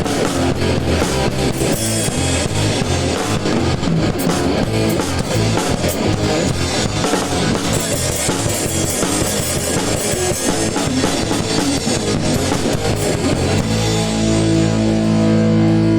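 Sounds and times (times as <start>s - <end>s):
bass guitar: 0.0s - 15.9s
drum kit fast ska beat: 0.0s - 15.9s
electric guitar: 0.0s - 15.9s
guitar chord ringing: 2.0s - 15.9s.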